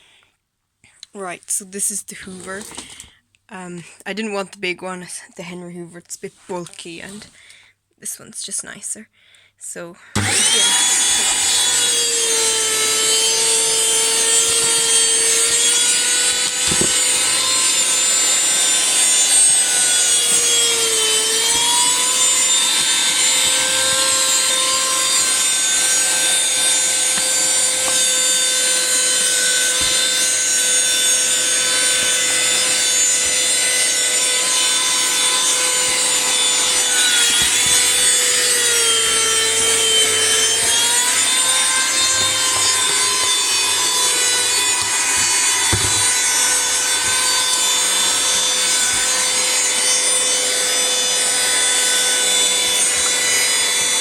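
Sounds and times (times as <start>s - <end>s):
vacuum cleaner motor whine: 10.2s - 54.0s.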